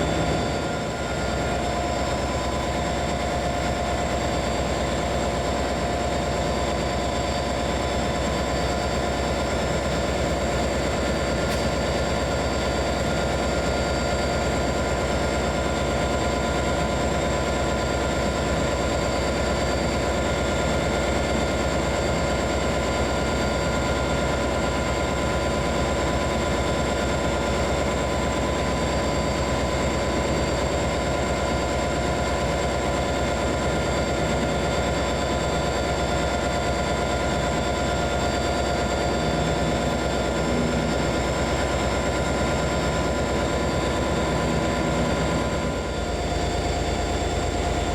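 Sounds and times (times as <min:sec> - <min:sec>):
train engine idling hum: 0:00.0 - 0:47.9.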